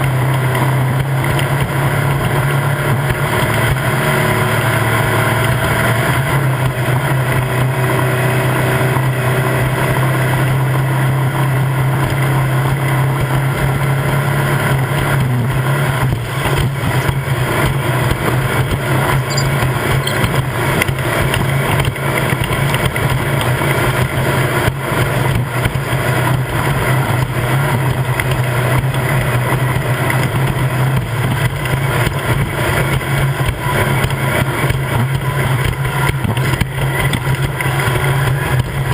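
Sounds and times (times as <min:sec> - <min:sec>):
road and wind noise: 0:00.0 - 0:38.9
vehicle engine running hard: 0:00.0 - 0:38.9.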